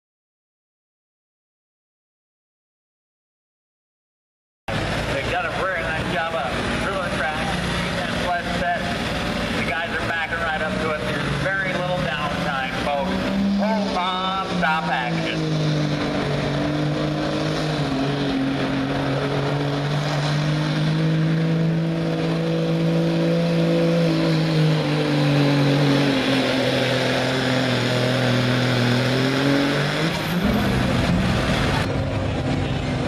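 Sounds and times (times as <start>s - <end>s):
diesel truck engine revving: 4.7s - 33.0s.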